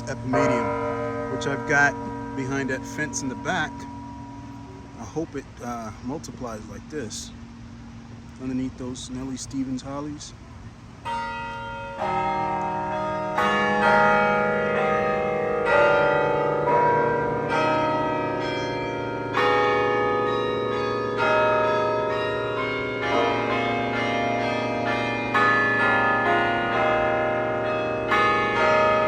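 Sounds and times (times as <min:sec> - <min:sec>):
carillon bells playing slow tune: 0:00.0 - 0:10.2, 0:11.0 - 0:29.0.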